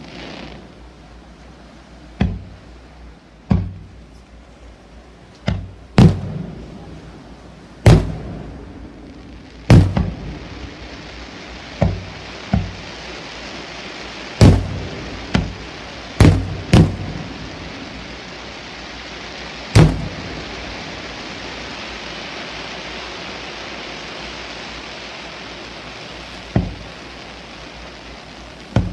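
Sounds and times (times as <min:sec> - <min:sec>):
steady hiss: 0:00.0 - 0:28.9
firework shells bursting: 0:05.4 - 0:28.9.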